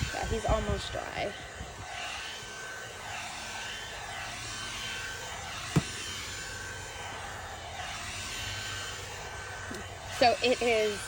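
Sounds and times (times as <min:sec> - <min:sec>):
pet grooming dryer whirring: 0:00.0 - 0:11.0.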